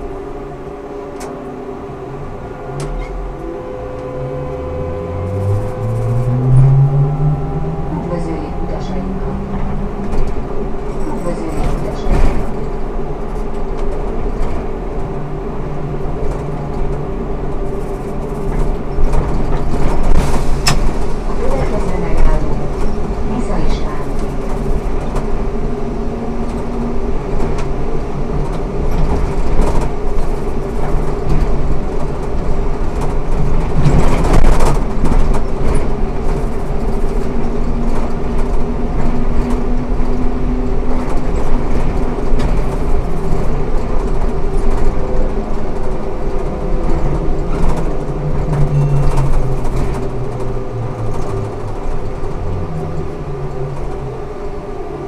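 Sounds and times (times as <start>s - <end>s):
bus rattling: 0.0s - 55.0s
trolleybus electric motor humming: 0.0s - 55.0s.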